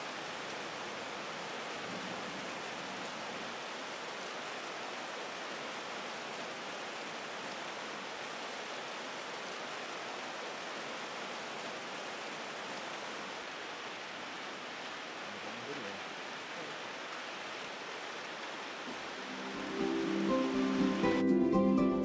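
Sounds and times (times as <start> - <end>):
hiss of rushing water: 0.0 - 21.3.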